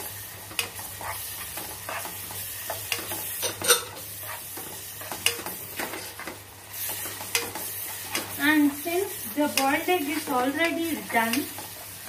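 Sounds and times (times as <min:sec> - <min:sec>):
vegetables sizzling in a pan: 0:00.0 - 0:12.0
spatula scraping a pan: 0:00.8 - 0:12.0.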